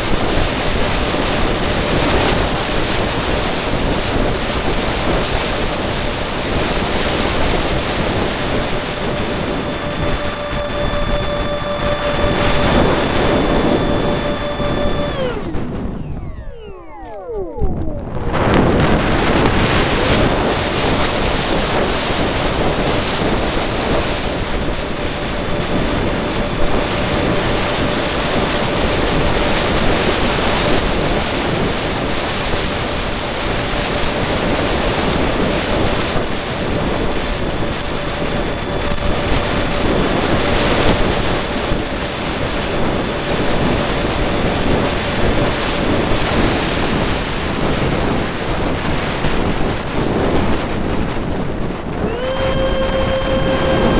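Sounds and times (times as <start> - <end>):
faint steady whine: 0.0 - 53.9
gusty wind buffeting microphone: 0.0 - 53.9.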